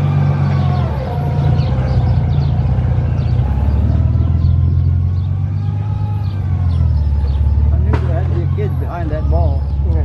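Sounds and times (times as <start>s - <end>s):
motorcycle trike engine running: 0.0s - 10.0s.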